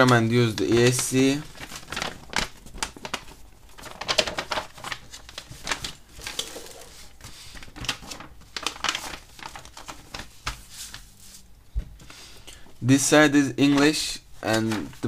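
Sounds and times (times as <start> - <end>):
paper rustling and crackling: 0.0 - 12.2, 13.6 - 15.0.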